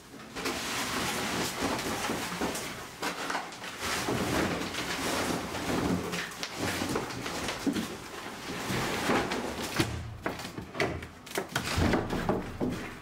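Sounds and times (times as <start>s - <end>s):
panels scraping: 0.0s - 13.0s
wooden boards cracking and splitting: 0.4s - 13.0s.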